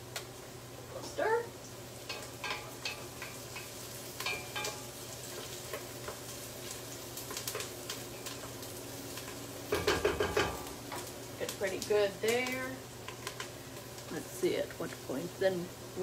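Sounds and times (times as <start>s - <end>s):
onions sizzling in a frying pan: 0.0s - 16.0s.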